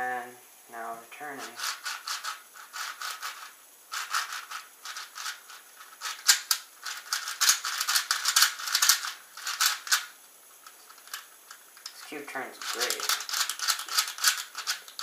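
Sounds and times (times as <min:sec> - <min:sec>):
puzzle cube clicking and clattering: 0:01.4 - 0:15.0.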